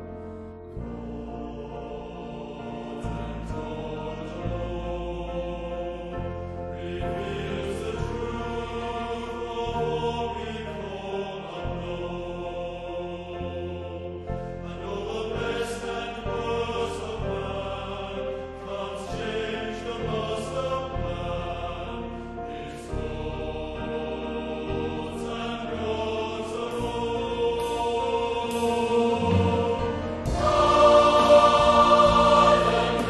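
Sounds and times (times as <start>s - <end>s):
choir singing slow song: 0.0s - 33.0s.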